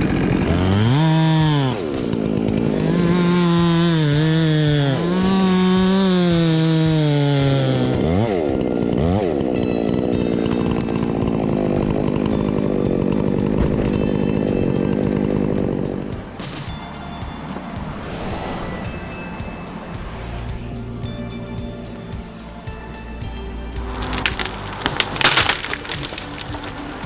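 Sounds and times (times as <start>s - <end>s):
chainsaw cutting at high revs: 0.0s - 22.1s, 23.8s - 27.0s.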